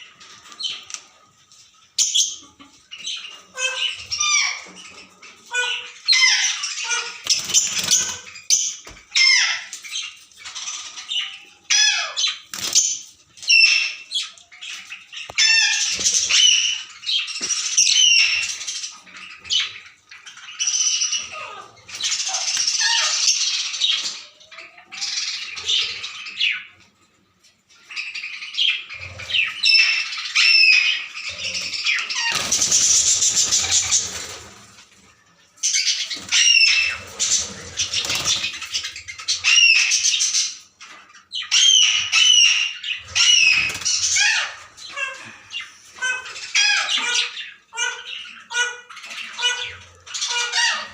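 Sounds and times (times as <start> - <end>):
parrots chirping and squawking: 0.0 - 50.9.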